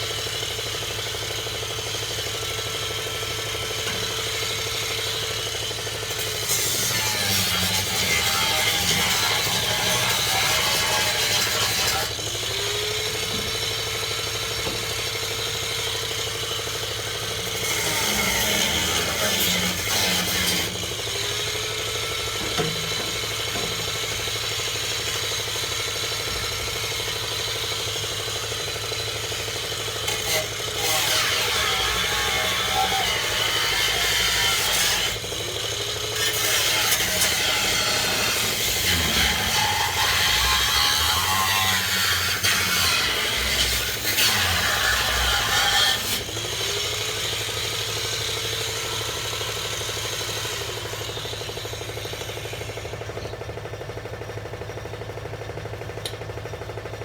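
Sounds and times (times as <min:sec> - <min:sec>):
grinding wheel on metal: 0:00.0 - 0:53.6
power grinder motor whine: 0:00.0 - 0:56.8.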